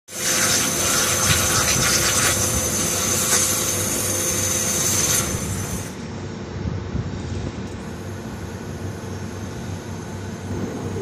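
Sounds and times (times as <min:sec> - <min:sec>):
high machine whine: 0:00.1 - 0:11.0
low machine hum: 0:00.3 - 0:11.0.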